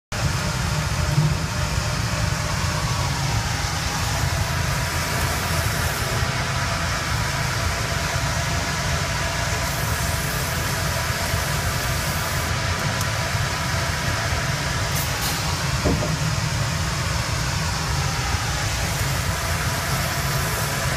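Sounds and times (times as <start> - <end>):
sawmill machinery running: 0.1 - 20.9.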